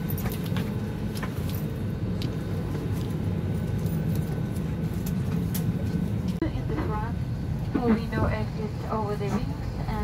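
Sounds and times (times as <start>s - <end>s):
airplane cabin hum: 0.0s - 10.0s.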